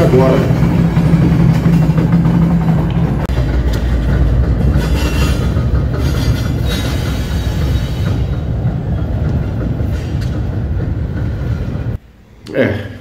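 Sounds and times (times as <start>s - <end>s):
metallic clanks from wagons: 0.0s - 11.2s
train rumbling past: 0.0s - 12.4s.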